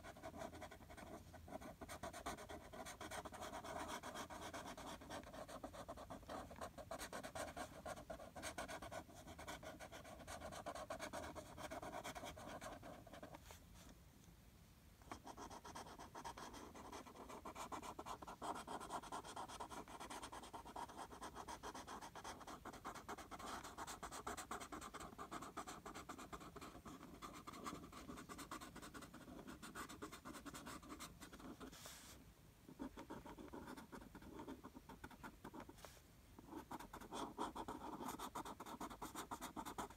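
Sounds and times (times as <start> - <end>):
marker scratching on paper: 0.0 - 13.6, 15.1 - 32.2, 32.8 - 39.9.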